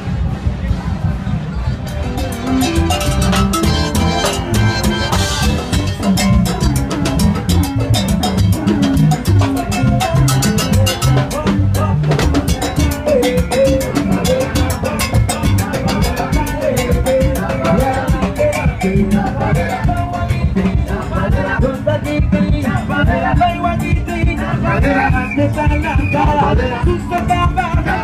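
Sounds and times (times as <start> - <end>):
latin dance music over loudspeakers: 0.0 - 28.0.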